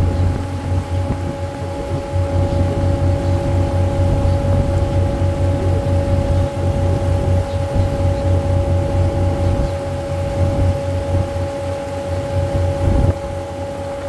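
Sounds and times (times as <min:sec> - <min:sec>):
boat engine throbbing: 0:00.0 - 0:14.0
steady engine hum: 0:00.0 - 0:14.0.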